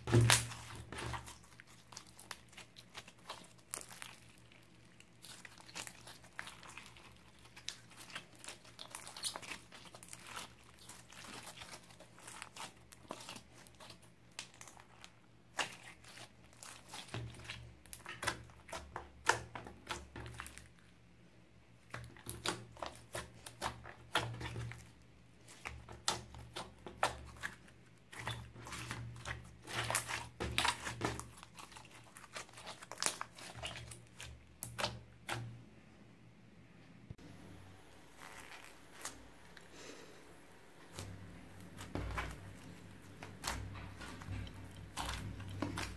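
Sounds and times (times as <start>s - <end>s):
slime sticky crackles: 0.0s - 20.9s, 21.8s - 35.4s, 38.0s - 39.6s, 40.8s - 45.9s.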